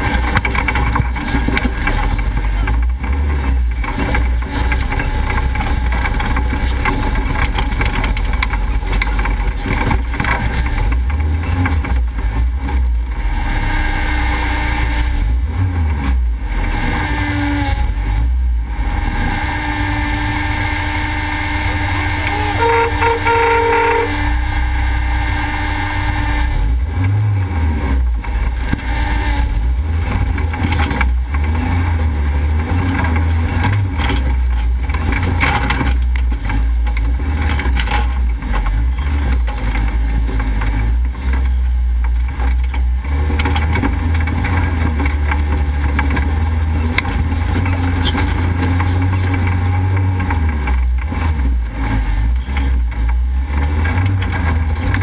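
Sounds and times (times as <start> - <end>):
off-road vehicle engine rumble: 0.0 - 55.0.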